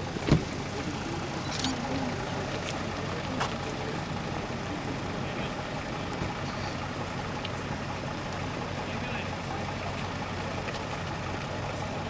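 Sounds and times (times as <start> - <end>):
faint voices: 0.0 - 12.0
vehicle engines idling: 0.0 - 12.0.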